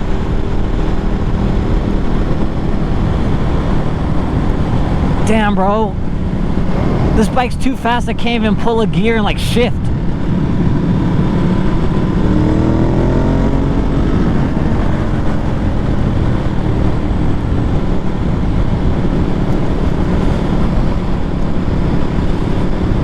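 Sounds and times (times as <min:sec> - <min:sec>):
motorcycle engine accelerating: 0:00.0 - 0:05.3, 0:06.0 - 0:07.2, 0:09.8 - 0:23.0
wind rumble on microphone: 0:00.0 - 0:07.6, 0:09.8 - 0:23.0.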